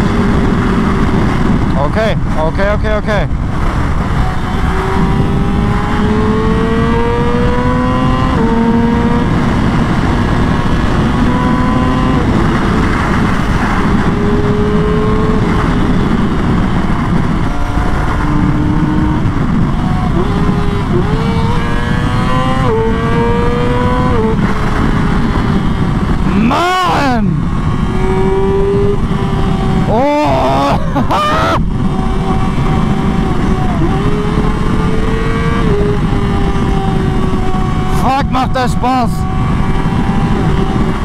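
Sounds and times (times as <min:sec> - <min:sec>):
motorcycle engine at high revs: 0:00.0 - 0:41.0
wind rush: 0:00.0 - 0:41.0.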